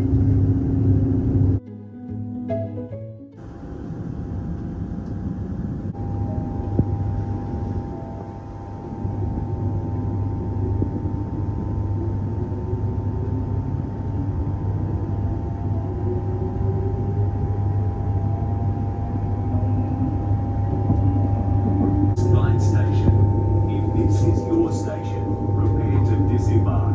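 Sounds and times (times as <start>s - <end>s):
train rumble and hum: 0.0s - 1.6s, 3.4s - 26.9s.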